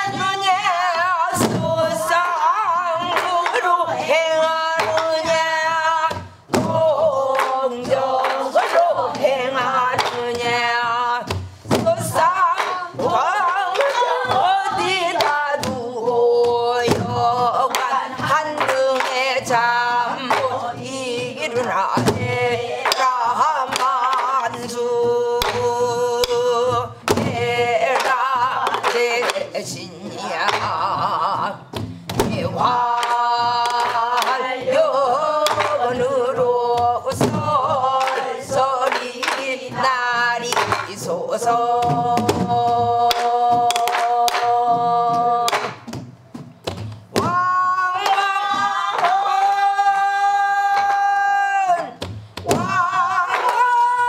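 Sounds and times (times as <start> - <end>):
woman singing with wide vibrato: 0.0 - 46.0, 47.0 - 54.0
barrel drum beaten with stick: 0.0 - 49.0.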